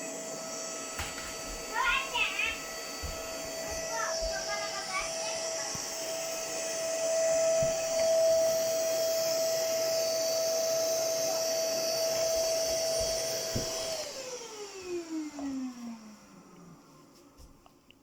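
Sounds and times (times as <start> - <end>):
vacuum motor spinning down: 0.0 - 17.1
vacuum cleaner running: 0.0 - 17.9.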